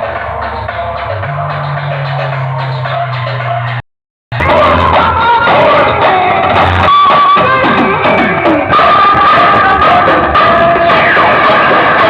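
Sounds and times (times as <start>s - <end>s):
song over loudspeakers: 0.0s - 12.0s.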